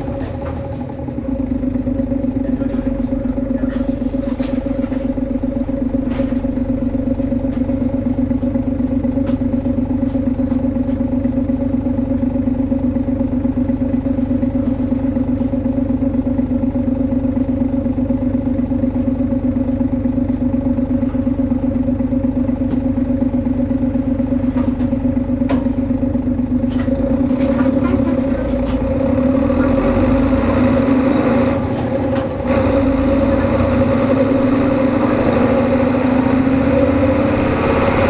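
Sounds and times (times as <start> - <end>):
bus engine droning: 0.0 - 38.0.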